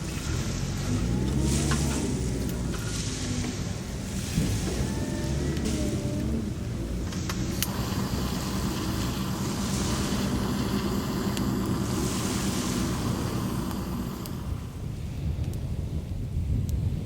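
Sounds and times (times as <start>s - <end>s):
waves washing on beach: 0.0s - 15.1s
wind rumbling on microphone: 0.0s - 17.0s.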